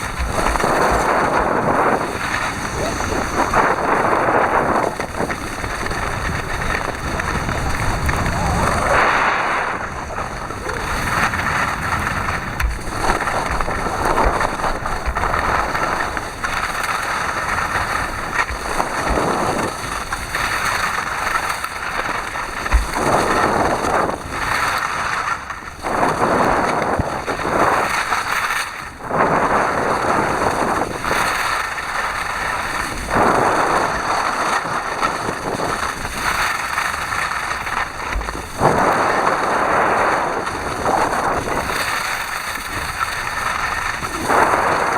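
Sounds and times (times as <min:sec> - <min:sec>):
wind on microphone: 0:00.0 - 0:44.9.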